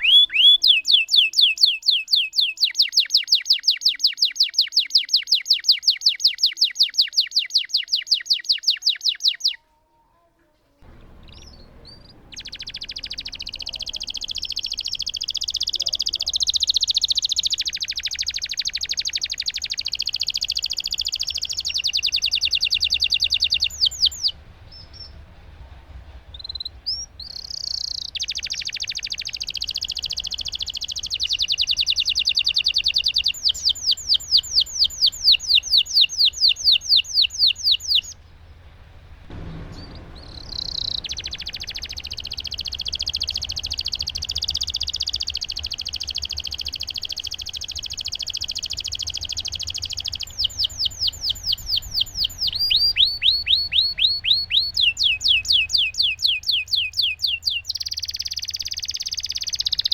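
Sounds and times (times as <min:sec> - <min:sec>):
canary singing trills: 0:00.0 - 0:09.6, 0:10.8 - 0:25.2, 0:26.4 - 0:38.2, 0:39.3 - 0:59.9.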